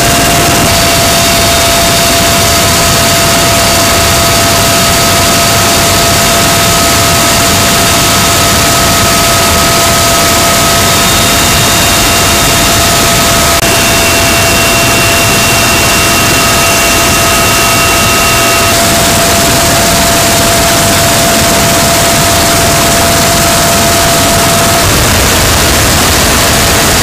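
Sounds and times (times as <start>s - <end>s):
helicopter rotor and engine rush: 0.0s - 27.0s
high turbine whine: 0.0s - 27.0s.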